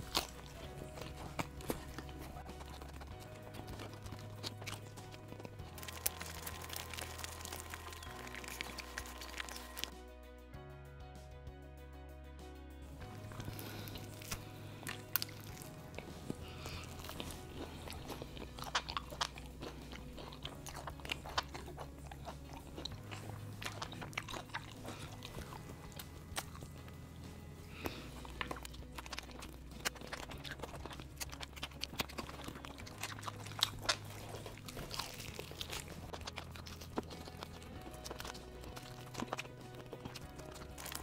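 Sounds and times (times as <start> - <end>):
crunching fried chicken: 0.0 - 10.0, 13.0 - 41.0
background music bass line: 0.0 - 41.0.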